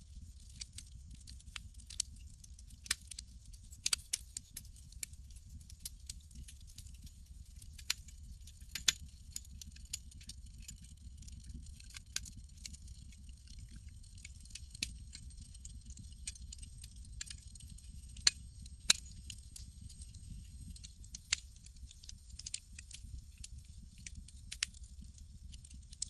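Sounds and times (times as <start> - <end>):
campfire crackling: 0.1 - 26.0.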